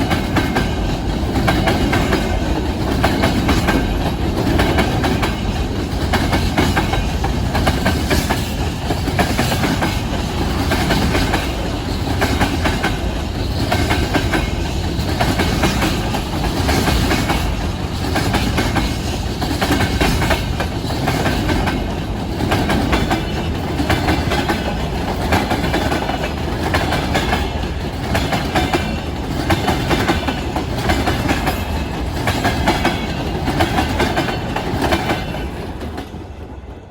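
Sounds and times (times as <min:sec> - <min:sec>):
train wheels clattering over rail joints: 0:00.0 - 0:36.9.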